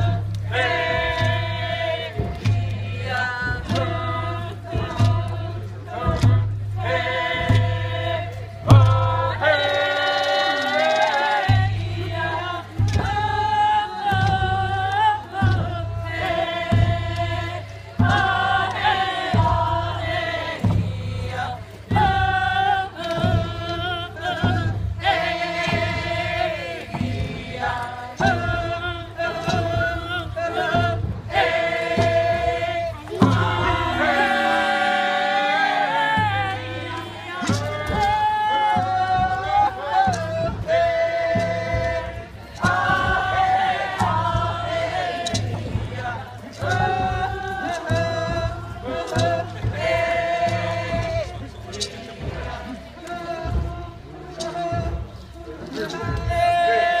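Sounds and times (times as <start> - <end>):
group singing in unison: 0.0 - 57.0
hand drums beating: 0.0 - 57.0.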